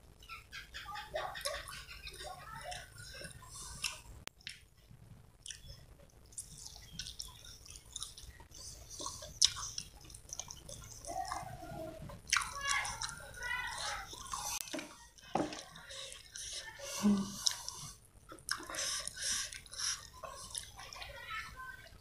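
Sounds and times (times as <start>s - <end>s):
chewing with wet clicks: 1.4s - 16.7s, 17.3s - 21.0s.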